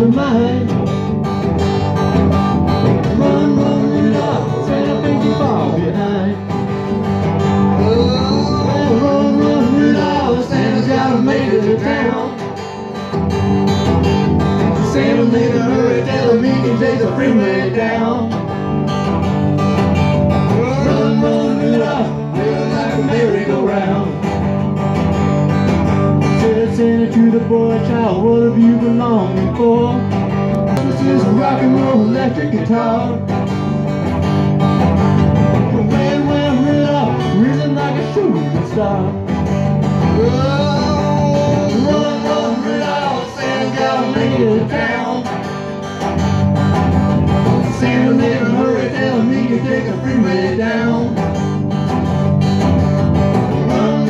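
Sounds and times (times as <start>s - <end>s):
acoustic guitar: 0.0s - 54.0s
country band playing: 0.0s - 54.0s
electric guitars: 0.0s - 54.0s.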